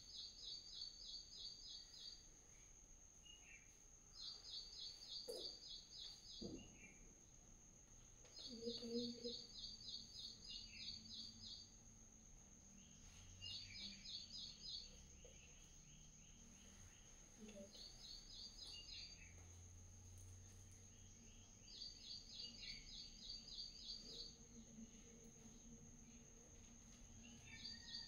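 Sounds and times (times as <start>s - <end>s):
faint high-pitched whine: 0.0s - 28.0s
small bird chirping: 0.0s - 28.0s.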